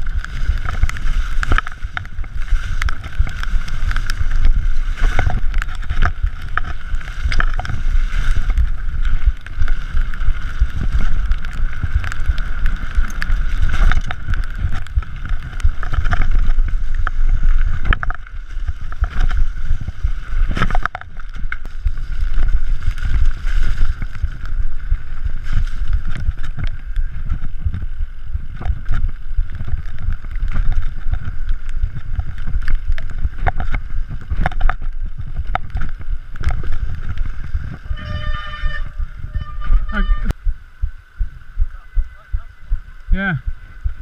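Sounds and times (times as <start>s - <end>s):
bike rattles and knocks: 0.0s - 41.1s
tyres rumbling over dirt: 0.0s - 44.0s
wind buffeting microphone: 0.0s - 44.0s.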